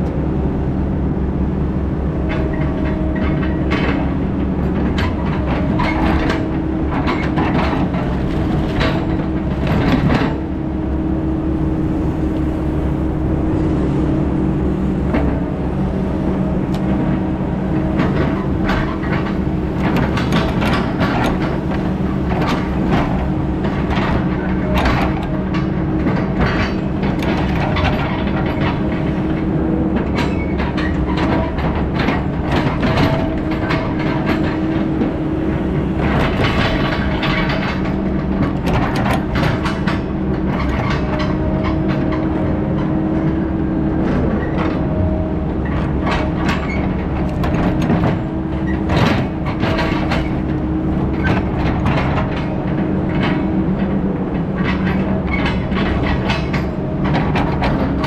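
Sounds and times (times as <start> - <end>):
heavy diesel equipment running: 0.0 - 58.0
metal rattling and clanking: 2.2 - 58.0.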